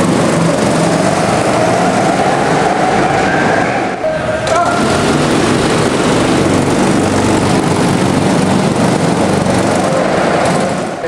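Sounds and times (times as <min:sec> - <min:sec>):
go-kart engines running: 0:00.0 - 0:11.0.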